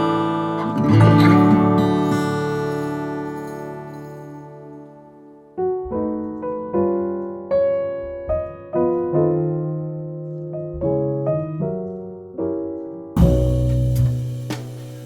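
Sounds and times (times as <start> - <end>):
piano single struck notes: 0.0 - 15.0.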